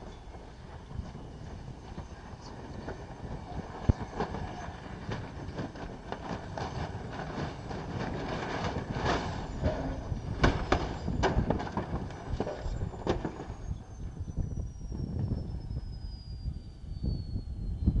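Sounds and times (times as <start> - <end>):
helicopter rotor rumble: 0.0 - 18.0
high whine falling in pitch: 0.0 - 18.0.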